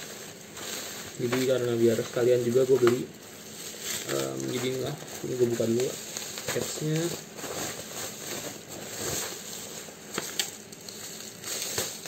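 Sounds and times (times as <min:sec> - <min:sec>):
package rustling and crinkling: 0:00.0 - 0:12.0.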